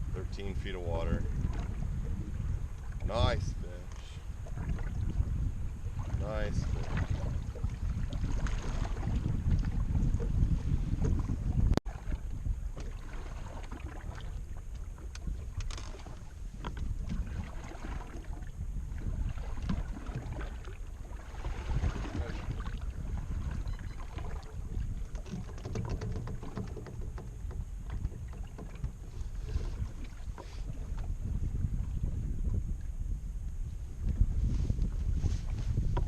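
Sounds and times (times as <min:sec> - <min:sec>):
wind buffeting microphone: 0:00.0 - 0:36.0
water splashing and lapping: 0:00.4 - 0:32.6.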